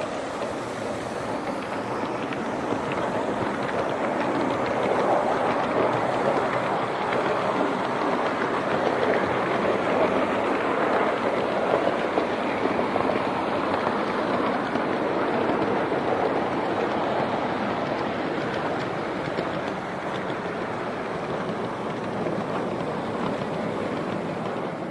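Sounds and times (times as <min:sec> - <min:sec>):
model steam locomotive clattering: 0:00.0 - 0:24.9.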